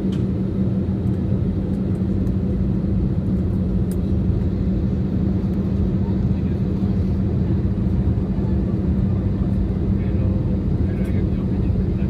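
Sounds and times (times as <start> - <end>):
airliner cabin engine noise: 0.0 - 12.0.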